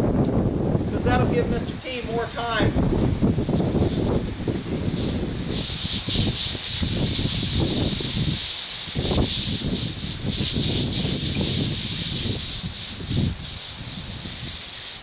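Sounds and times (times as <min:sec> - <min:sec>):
garden hose spraying water: 0:00.7 - 0:15.0.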